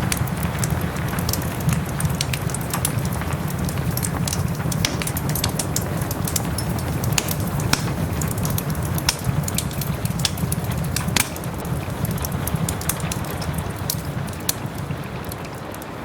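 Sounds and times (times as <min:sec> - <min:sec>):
soft hiss of rain: 0:00.0 - 0:16.0
steady low rumble: 0:00.0 - 0:16.0
wood fire crackling and popping: 0:00.0 - 0:16.0.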